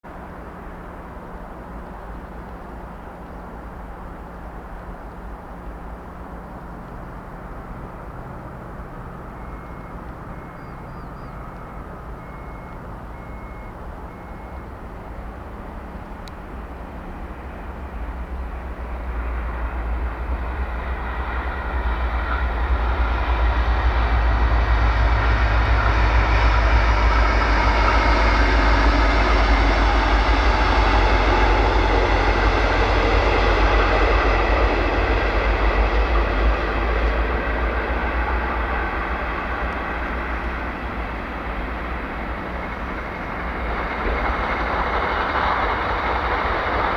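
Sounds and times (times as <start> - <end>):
deep train drone: 0.1 - 46.9
train wheels rumbling on rail: 0.1 - 46.9.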